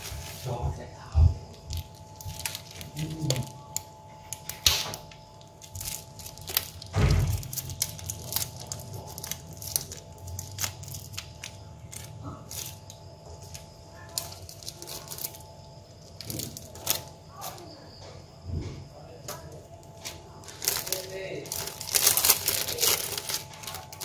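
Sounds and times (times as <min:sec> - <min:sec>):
plastic bags crinkling: 0:00.0 - 0:00.8, 0:01.4 - 0:17.8, 0:19.7 - 0:24.0.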